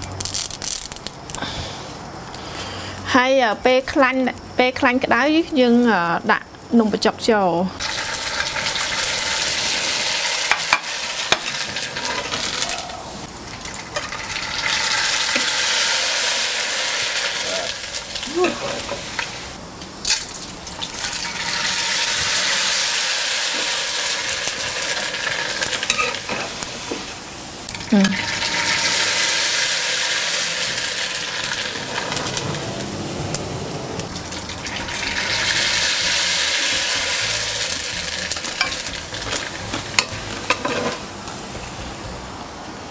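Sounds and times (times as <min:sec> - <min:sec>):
noodles sizzling in hot oil: 0:05.7 - 0:42.2.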